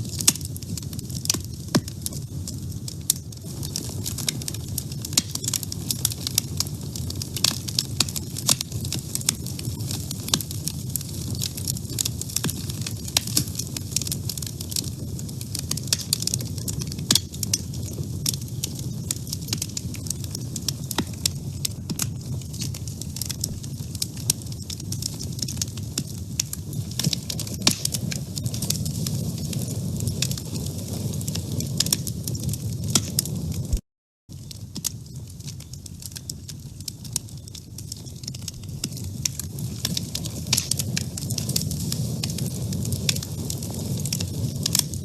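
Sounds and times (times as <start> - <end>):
low rumble of flame: 0.0 - 45.0
wood fire crackling: 0.0 - 45.0.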